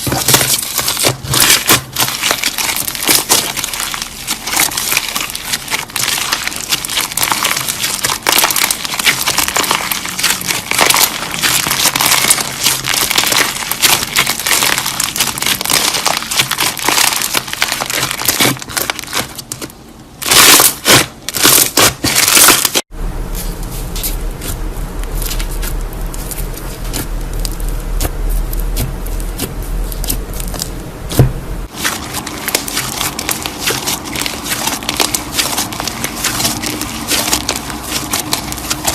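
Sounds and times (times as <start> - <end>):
slime crackling and popping: 0.0 - 22.9, 24.4 - 30.8, 31.6 - 38.9
slime squelches: 0.0 - 38.9
steady low hum: 0.0 - 38.9.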